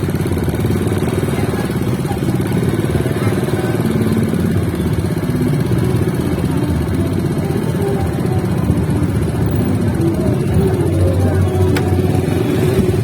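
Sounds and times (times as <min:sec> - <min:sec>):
hubbub of voices: 0:00.0 - 0:13.0
motorcycle engines running: 0:00.0 - 0:13.0.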